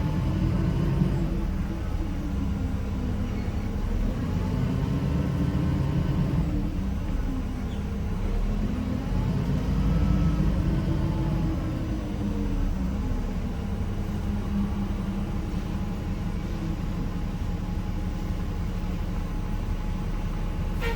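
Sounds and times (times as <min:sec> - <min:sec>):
bus diesel engine humming: 0:00.0 - 0:20.9.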